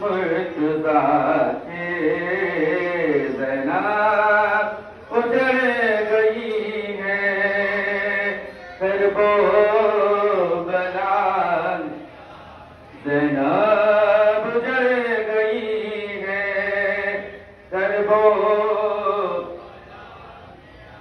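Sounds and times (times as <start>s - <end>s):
person chanting a lament: 0.0s - 21.0s.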